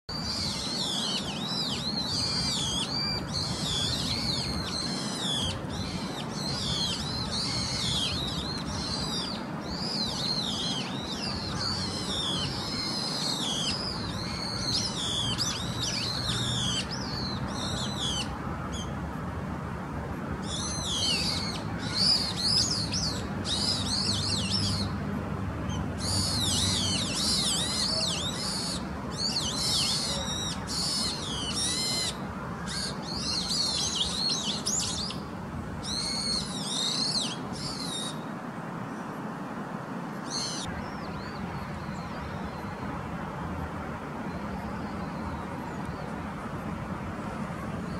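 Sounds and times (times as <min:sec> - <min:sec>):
small birds chirping: 0:00.1 - 0:18.9, 0:20.4 - 0:25.0, 0:25.7 - 0:38.2, 0:40.2 - 0:42.9.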